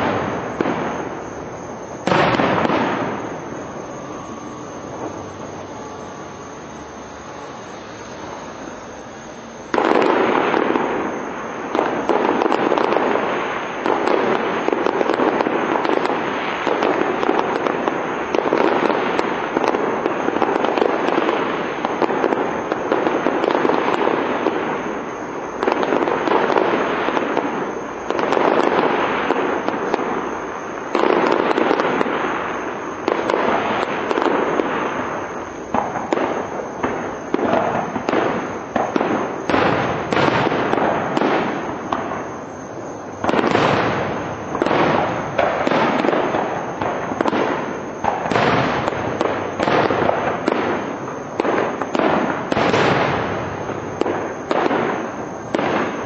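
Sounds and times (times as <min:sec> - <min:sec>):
firework shells bursting: 0:00.0 - 0:05.8, 0:06.4 - 0:56.0.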